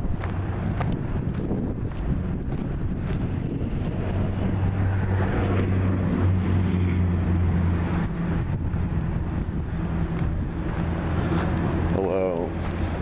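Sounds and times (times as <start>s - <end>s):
constant rumbling noise: 0.0s - 13.0s.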